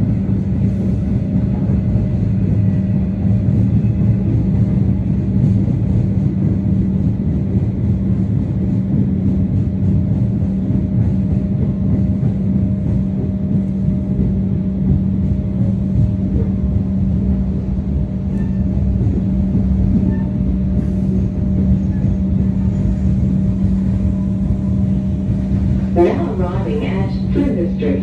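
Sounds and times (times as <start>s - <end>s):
constant hum: 0.0s - 28.0s
train rumble: 0.0s - 28.0s.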